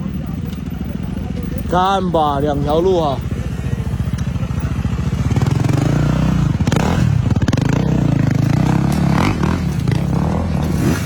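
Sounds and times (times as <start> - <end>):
dirt bike engine at low revs: 0.0 - 11.0.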